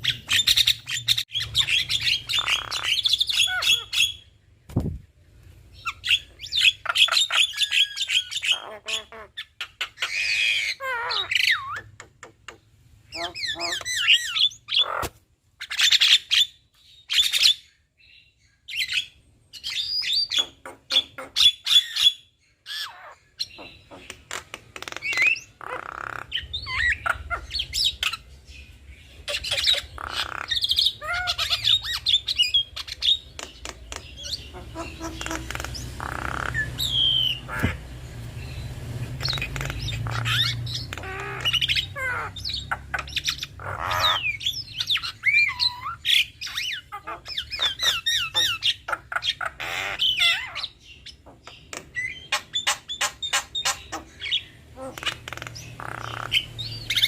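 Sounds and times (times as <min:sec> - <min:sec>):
birds squawking and whistling: 0:00.0 - 0:57.0.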